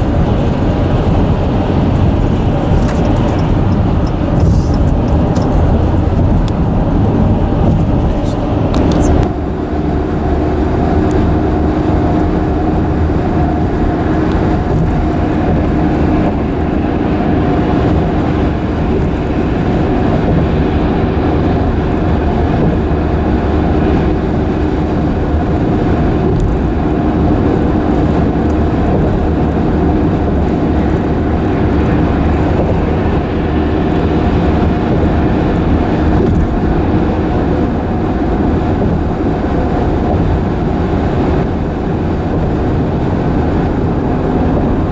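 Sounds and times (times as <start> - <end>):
bridge rumbling under traffic: 0.0 - 44.9
droning hum: 0.0 - 44.9.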